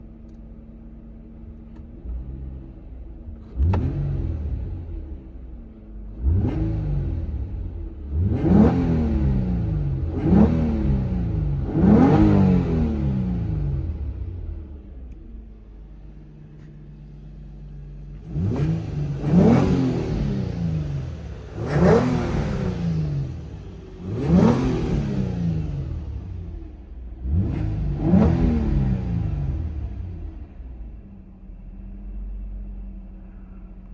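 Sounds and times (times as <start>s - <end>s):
car engine revving from idle: 0.0s - 33.9s.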